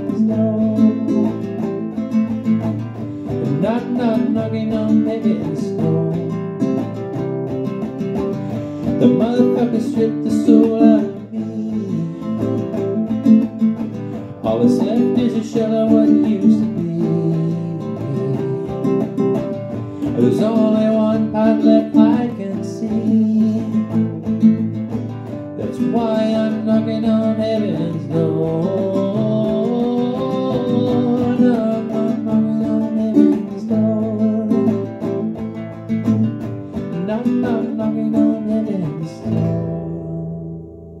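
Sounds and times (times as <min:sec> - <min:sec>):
man singing: 0:00.0 - 0:40.7
classical guitar strummed: 0:00.0 - 0:41.0.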